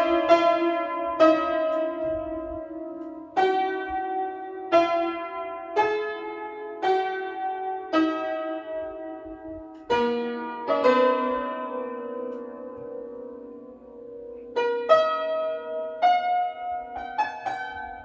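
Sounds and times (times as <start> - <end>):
upright piano played slowly: 0.0 - 18.0.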